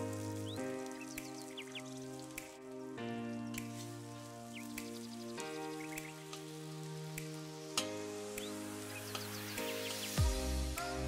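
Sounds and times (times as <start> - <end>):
food sizzling in a wok: 0.0 - 2.6, 3.6 - 11.0
background music sustained chords: 0.0 - 11.0.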